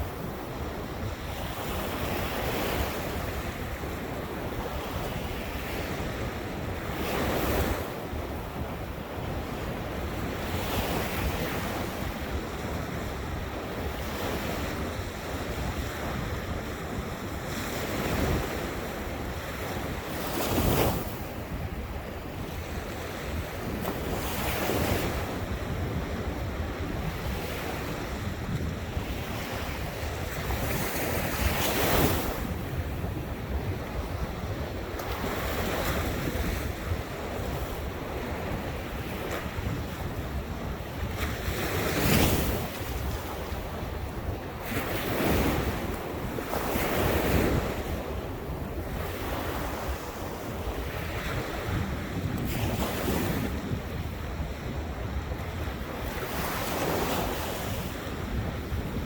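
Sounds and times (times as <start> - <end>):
waves breaking on shore: 0.0 - 59.0
wind rumbling on microphone: 0.0 - 59.0.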